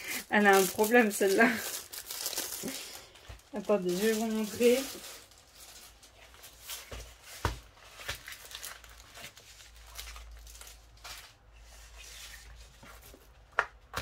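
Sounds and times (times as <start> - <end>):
plastic film and paper rustling: 0.0 - 14.0.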